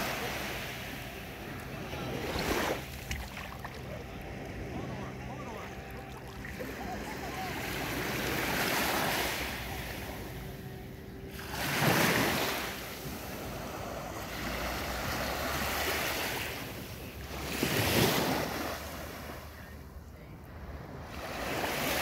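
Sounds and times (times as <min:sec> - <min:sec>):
small waves washing onto sand: 0:00.0 - 0:10.6, 0:11.2 - 0:22.0.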